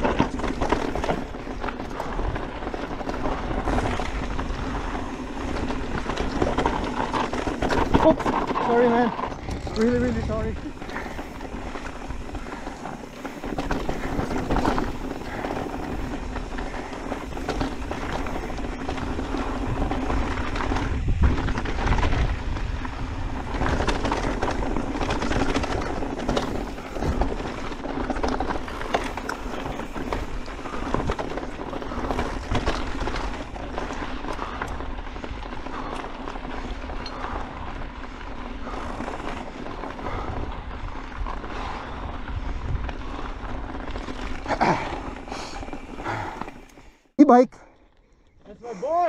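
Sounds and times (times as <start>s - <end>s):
bike clattering over bumps: 0.0s - 47.0s
tyres crunching over stones: 0.0s - 47.0s.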